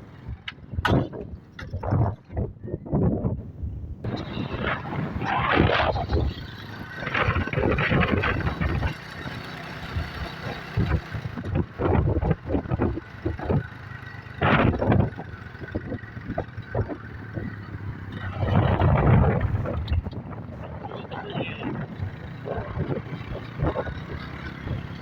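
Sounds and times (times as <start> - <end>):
wind buffeting microphone: 0.0 - 25.0
motorcycle engine running: 4.1 - 25.0.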